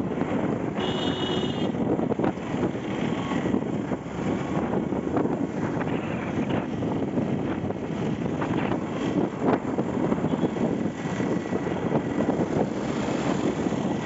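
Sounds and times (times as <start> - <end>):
road and traffic noise: 0.0 - 14.0
wind buffeting microphone: 0.0 - 14.0.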